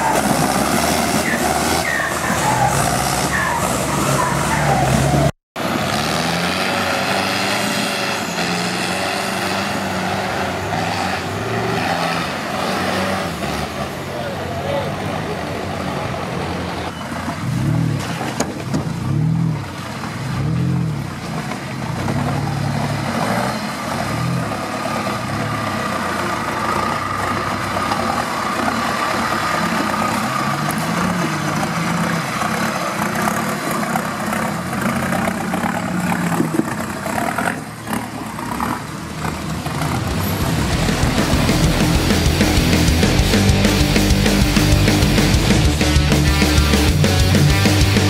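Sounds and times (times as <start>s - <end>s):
off-road vehicle engine revving: 0.0s - 48.0s.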